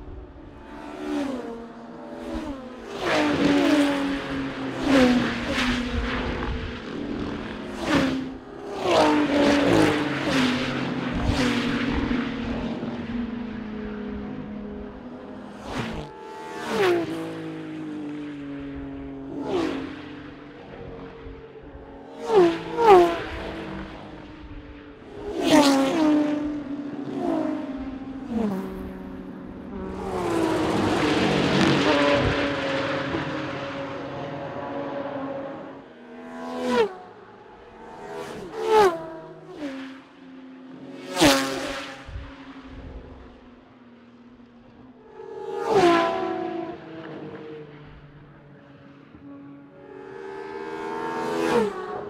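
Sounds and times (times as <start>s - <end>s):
racing cars passing at full throttle: 0.0s - 52.0s.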